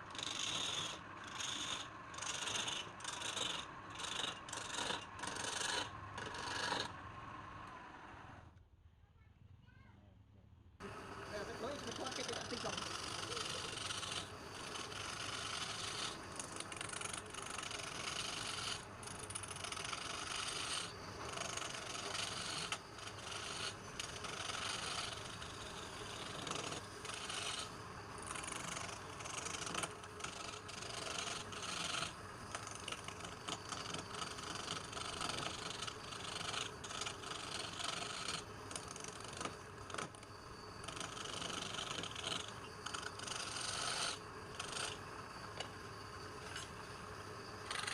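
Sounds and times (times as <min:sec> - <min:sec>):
tool scraping wood: 0:00.1 - 0:07.0, 0:11.6 - 0:40.2, 0:40.8 - 0:45.8, 0:47.7 - 0:47.9.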